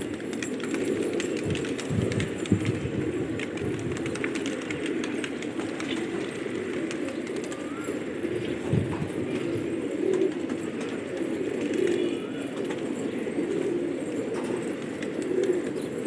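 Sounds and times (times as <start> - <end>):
wing flaps: 0.0 - 15.8
pigeons cooing: 0.0 - 16.0.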